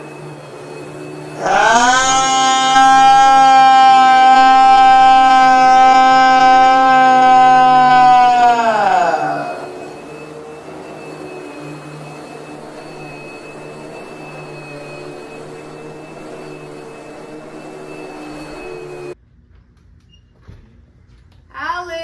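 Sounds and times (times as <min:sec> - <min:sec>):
vacuum cleaner motor running: 0:00.0 - 0:19.2.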